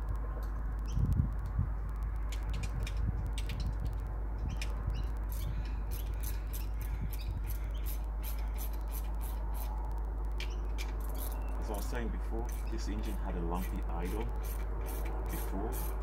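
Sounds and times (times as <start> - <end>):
steady low rumble: 0.0 - 16.0
tools clicking and ticking: 2.1 - 16.0.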